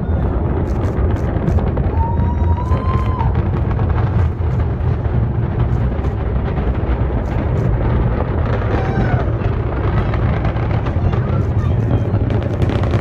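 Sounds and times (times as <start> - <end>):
rocket engines rumbling: 0.0 - 13.0
sharp crackles: 0.0 - 13.0.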